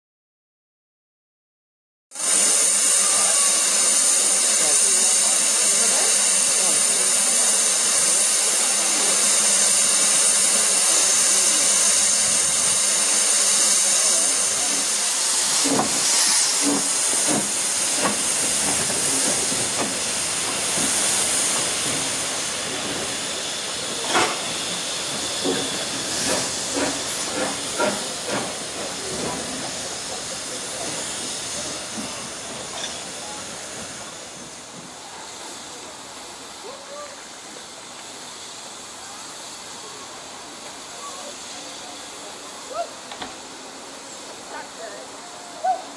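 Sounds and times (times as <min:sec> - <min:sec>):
steam locomotive hissing steam: 0:02.1 - 0:45.9.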